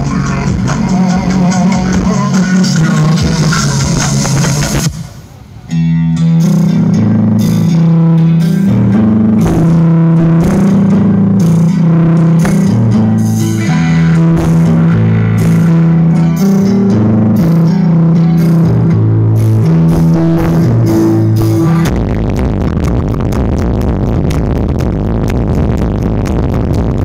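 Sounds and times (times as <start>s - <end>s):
loud rock music with heavy bass: 0.0s - 27.0s.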